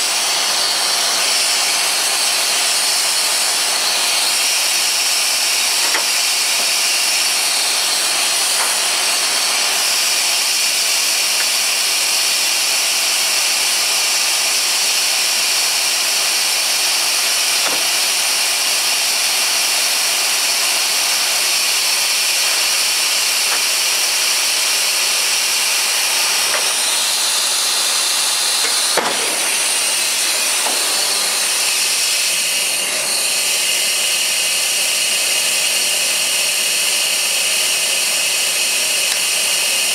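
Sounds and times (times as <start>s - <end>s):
loud steady air hiss: 0.0s - 39.9s.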